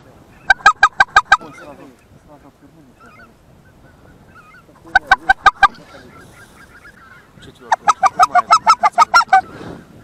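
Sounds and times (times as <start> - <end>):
distant geese calling: 0.2 - 10.0
geese honking: 0.3 - 2.1, 2.8 - 9.6.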